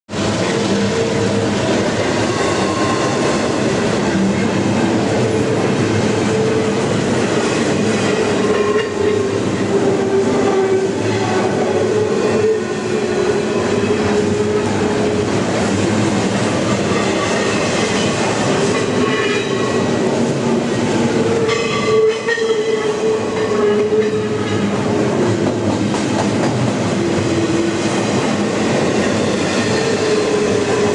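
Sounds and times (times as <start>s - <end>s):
train wheels rolling on rails: 0.1s - 30.9s.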